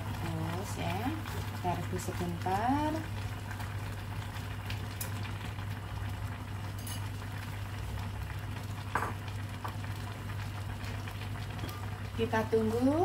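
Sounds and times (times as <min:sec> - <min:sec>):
broth boiling and bubbling: 0:00.0 - 0:13.0.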